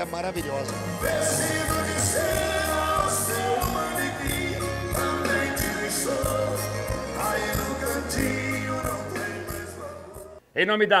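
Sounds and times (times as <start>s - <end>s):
band with guitars bass and drums: 0.5s - 9.8s
men singing: 0.9s - 10.4s.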